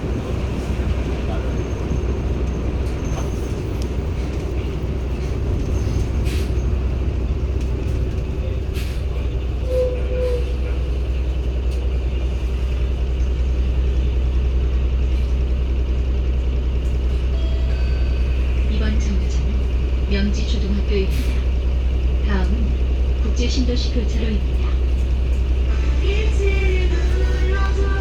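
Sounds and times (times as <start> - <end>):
bus diesel engine drone: 0.0 - 28.0.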